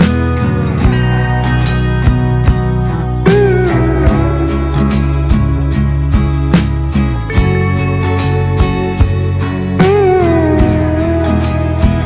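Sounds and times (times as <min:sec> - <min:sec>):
plucked guitar music with beat: 0:00.0 - 0:12.0.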